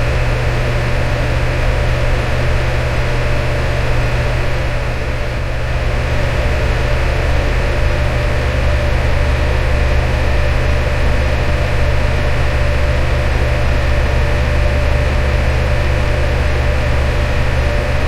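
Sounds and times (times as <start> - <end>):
electric fan running: 0.0 - 18.0.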